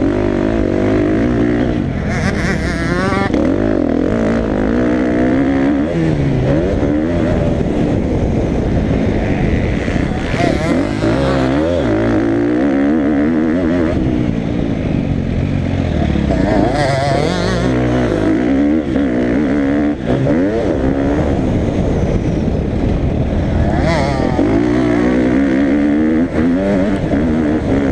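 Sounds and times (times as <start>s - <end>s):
dirt bike engine revving: 0.0s - 27.9s.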